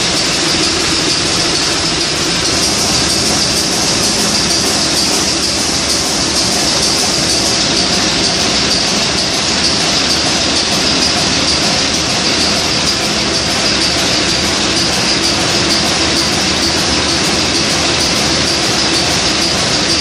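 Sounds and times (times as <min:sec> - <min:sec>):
marine diesel engine running: 0:00.0 - 0:20.0.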